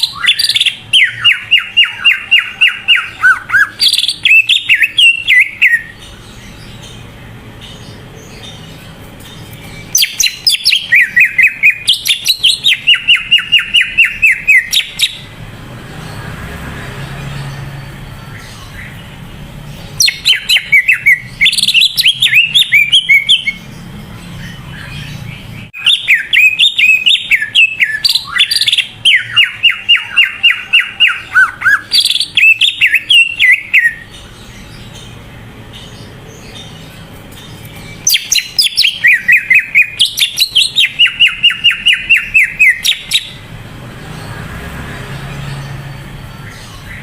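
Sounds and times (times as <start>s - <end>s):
bird singing whistled chattering notes: 0.0s - 15.4s, 17.4s - 43.5s.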